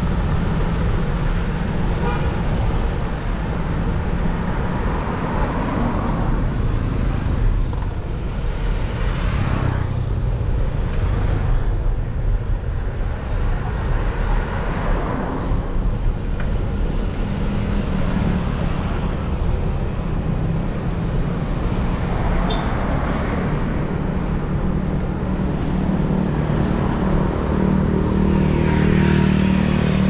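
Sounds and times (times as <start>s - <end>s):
cars and motorbikes passing: 0.0s - 30.0s
low traffic rumble: 0.0s - 30.0s.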